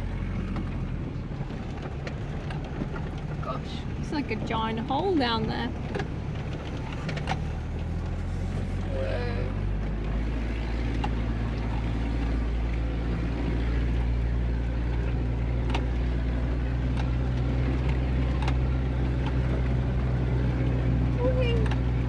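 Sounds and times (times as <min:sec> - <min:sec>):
engine low drone: 0:00.0 - 0:22.0.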